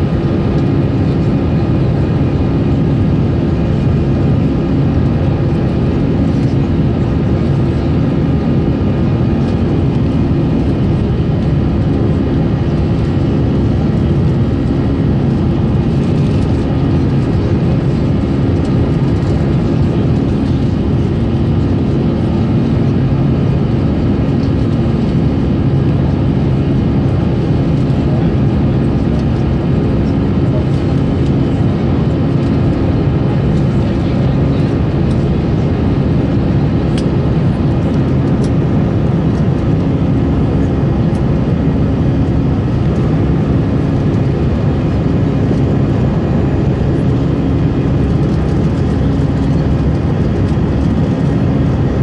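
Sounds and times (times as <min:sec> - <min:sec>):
aircraft cabin engine drone: 0:00.0 - 0:52.0.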